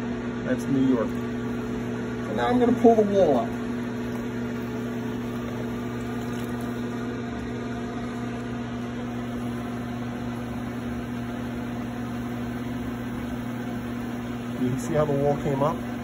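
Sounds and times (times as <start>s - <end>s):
potter's wheel motor humming: 0.0s - 16.0s.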